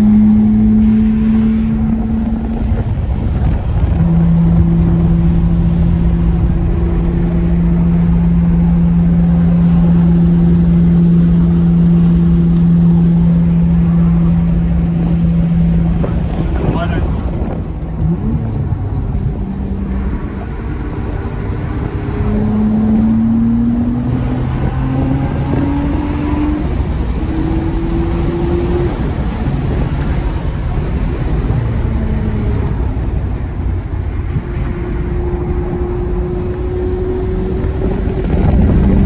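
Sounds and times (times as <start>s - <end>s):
car engine revving: 0.0s - 39.0s
road and wind noise: 0.0s - 39.0s.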